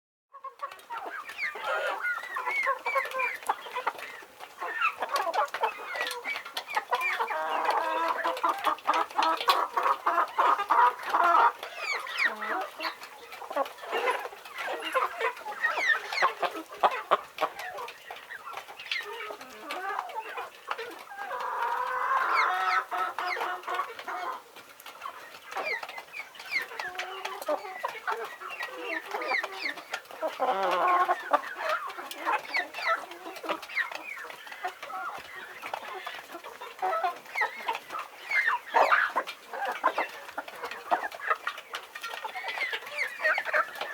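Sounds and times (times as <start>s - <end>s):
chickens clucking and calling: 0.3s - 43.9s.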